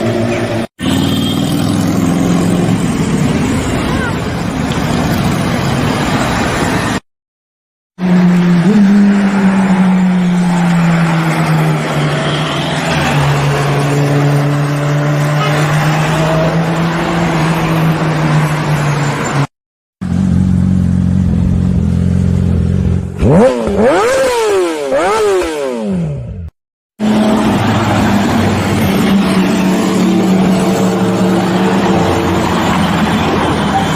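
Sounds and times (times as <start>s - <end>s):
motorcycle engine revving: 0.0s - 7.0s, 8.0s - 18.6s, 20.0s - 33.9s.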